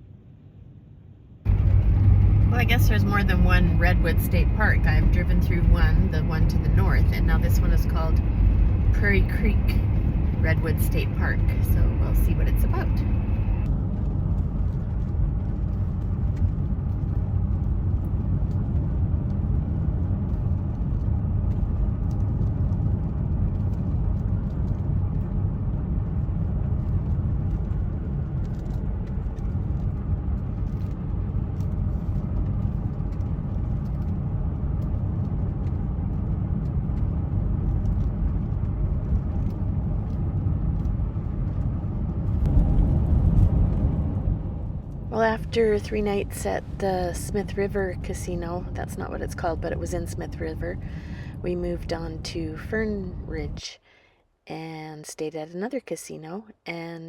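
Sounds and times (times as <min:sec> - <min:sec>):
van engine and road noise: 0:01.4 - 0:53.7.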